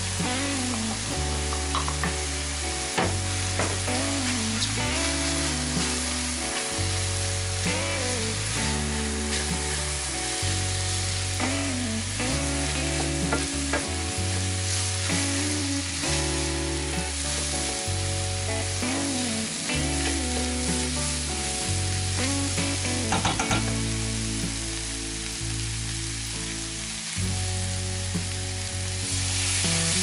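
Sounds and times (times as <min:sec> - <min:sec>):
background music: 0:00.0 - 0:30.0
mushrooms sizzling in a pan: 0:00.0 - 0:30.0.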